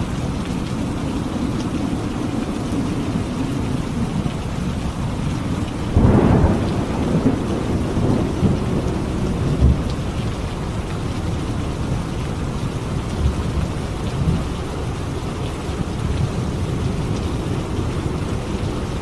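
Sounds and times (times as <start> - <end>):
heavy rain: 0.0 - 19.0
thunderclap rumbling: 0.0 - 19.0.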